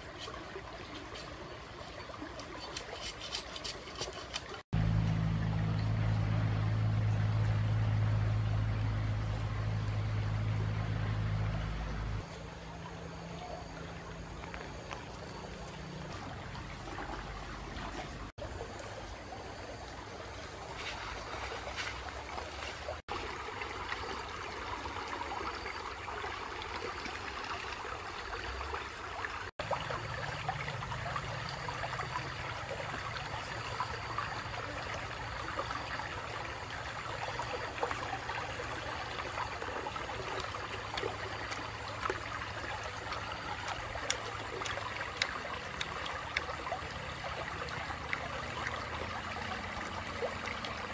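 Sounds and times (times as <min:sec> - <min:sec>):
stream rushing over stones: 0:00.0 - 0:50.9.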